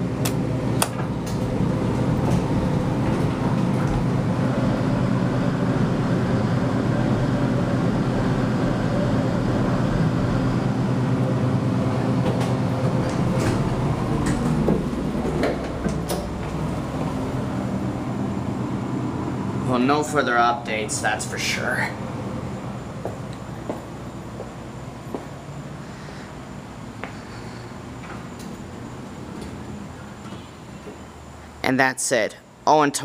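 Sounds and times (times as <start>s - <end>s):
elevator rumbling hum: 0.0s - 31.7s.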